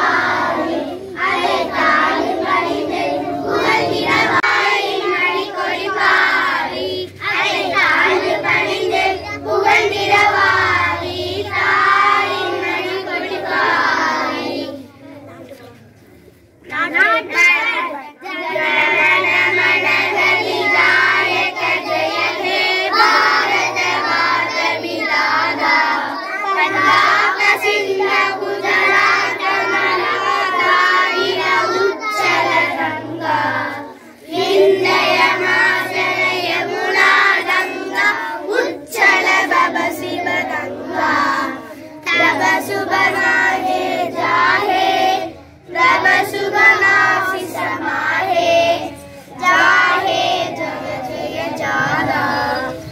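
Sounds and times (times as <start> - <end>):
children singing in unison: 0.0 - 14.9, 17.3 - 52.9.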